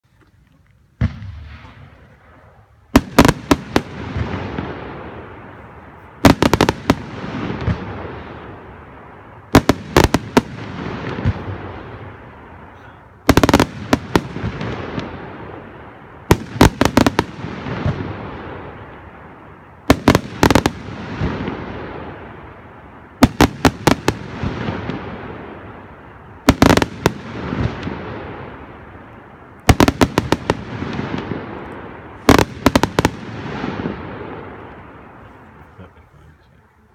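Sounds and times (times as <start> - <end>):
firework hiss and crackle: 0.8 - 36.9.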